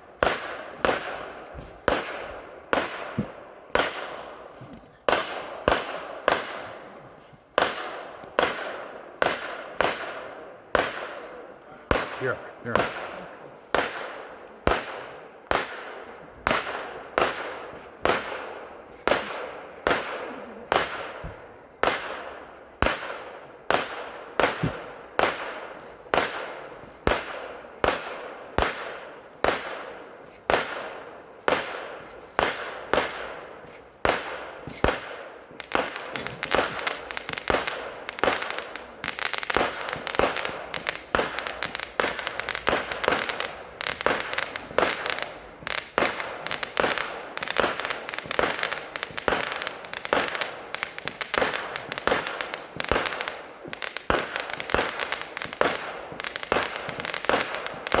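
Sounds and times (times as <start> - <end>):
firework shots with crackling: 0.0 - 58.0.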